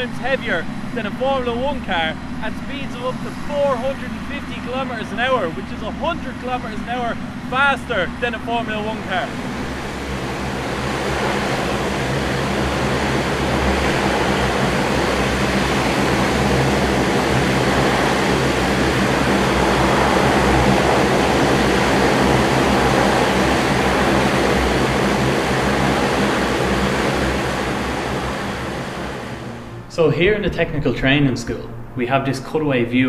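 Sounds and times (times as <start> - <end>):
turboprop aircraft taxiing: 0.0 - 33.0.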